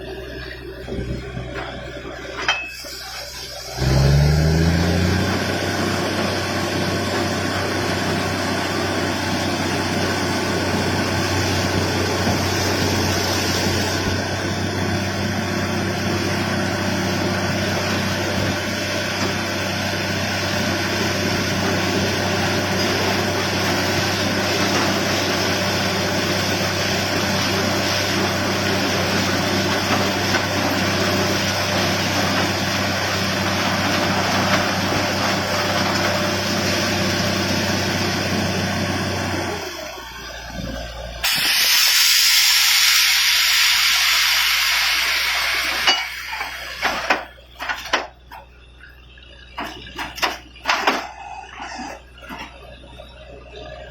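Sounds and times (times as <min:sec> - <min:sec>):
drilling rig engine drone: 0:00.0 - 0:53.9.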